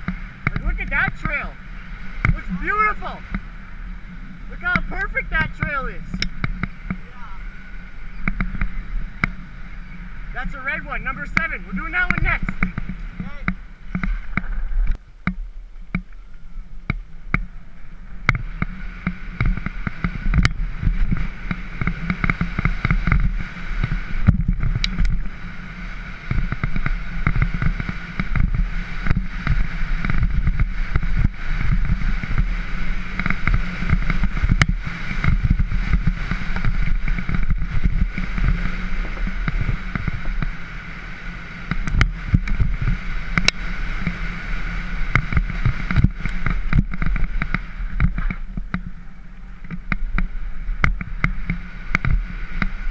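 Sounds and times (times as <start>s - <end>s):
bike rattling and knocking: 0.0s - 52.9s.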